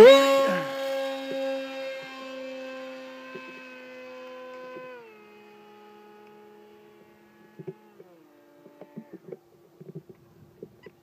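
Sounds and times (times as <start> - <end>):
model airplane motor whining: 0.0 - 10.1.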